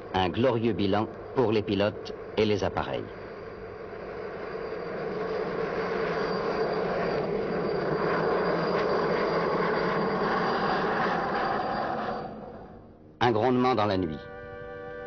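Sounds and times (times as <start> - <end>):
helicopter rotor noise: 0.0 - 13.8
helicopter turbine whine: 0.0 - 15.0.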